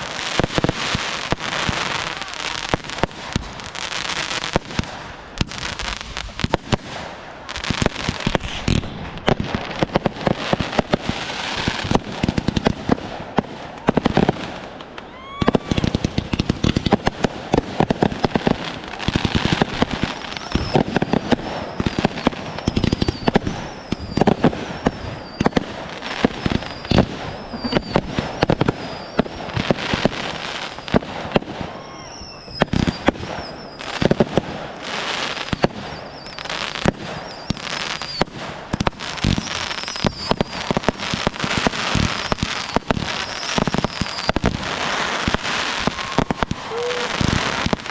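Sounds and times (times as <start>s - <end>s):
firework whistles: 0.0s - 47.9s
fireworks bangs and crackling: 0.0s - 47.9s.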